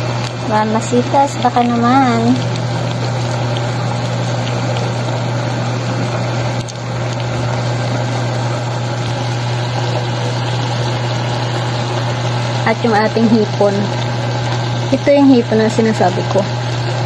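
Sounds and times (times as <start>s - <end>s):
low hum: 0.0s - 17.0s
stir-fry sizzling in a pot: 0.0s - 17.0s.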